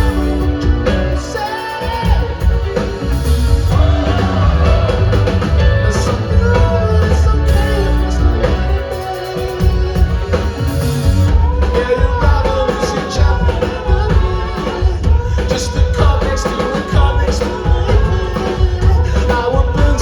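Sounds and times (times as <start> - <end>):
person singing: 0.0 - 20.0
rock band playing live: 0.0 - 20.0.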